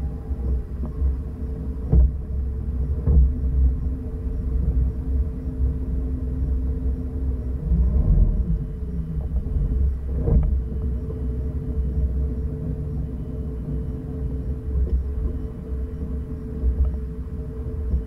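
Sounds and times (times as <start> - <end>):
motorboat engine rumble: 0.0 - 18.0.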